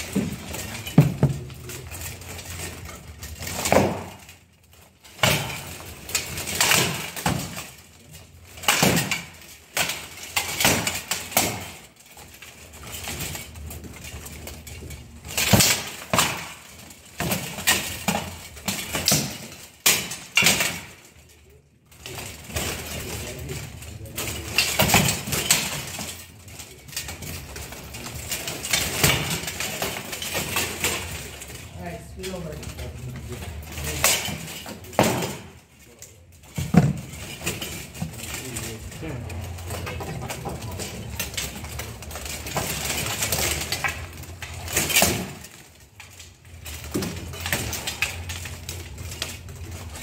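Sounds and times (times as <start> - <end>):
plate armour clanking: 0.0 - 50.0.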